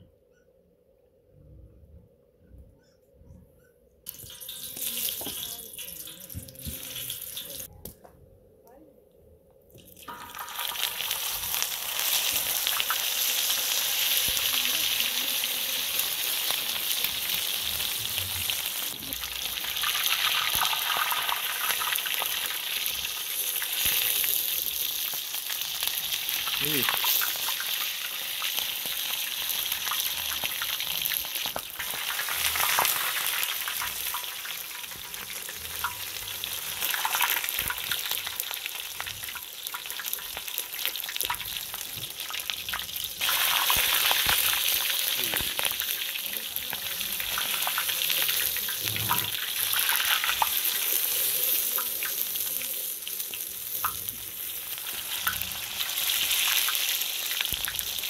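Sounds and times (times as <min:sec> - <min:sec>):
oil sizzling around steak: 0:04.1 - 0:07.7, 0:09.8 - 0:58.0.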